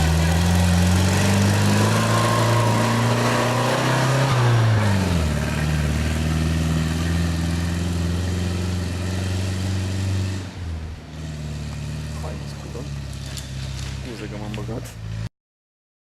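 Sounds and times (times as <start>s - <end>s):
vehicle engine revving under load: 0.0s - 15.3s.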